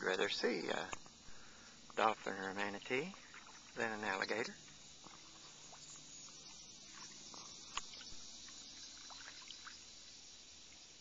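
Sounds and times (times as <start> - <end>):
faint hiss: 0.0 - 11.0
water drips: 0.8 - 11.0.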